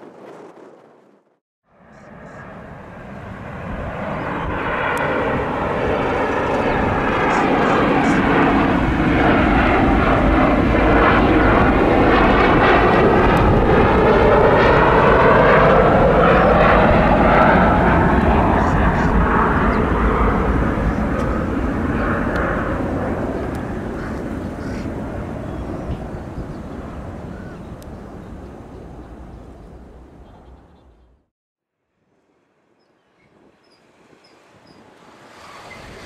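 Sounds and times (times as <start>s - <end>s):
jet airliner engines: 0.0s - 31.3s, 32.2s - 36.0s.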